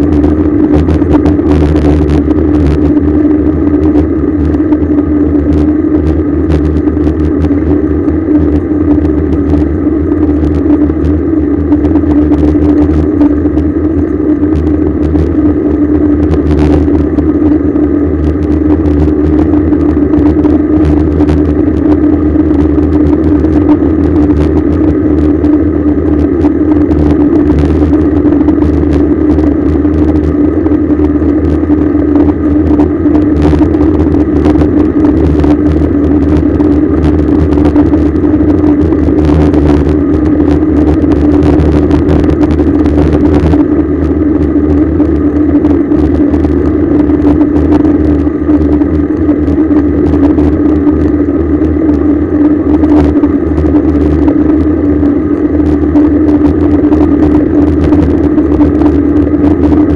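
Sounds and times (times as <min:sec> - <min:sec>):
constant low hum: 0:00.0 - 0:59.9
road rumble: 0:00.0 - 0:59.9
wind noise: 0:00.0 - 0:59.9.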